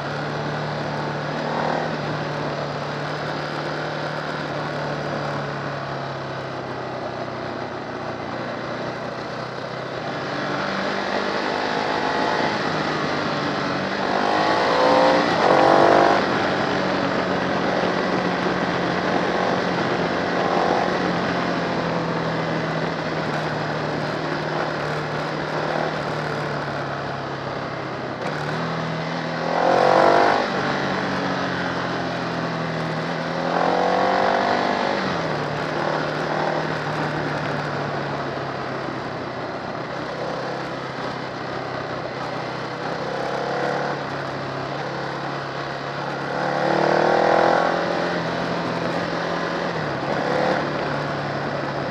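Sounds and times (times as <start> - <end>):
motorcycle engine revving: 7.8 - 51.9.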